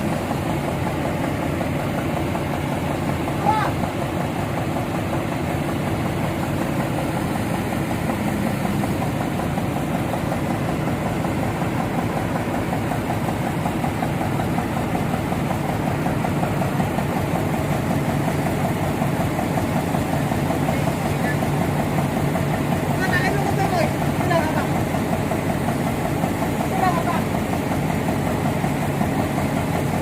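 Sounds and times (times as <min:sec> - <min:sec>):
heavy engine running: 0:00.0 - 0:30.0.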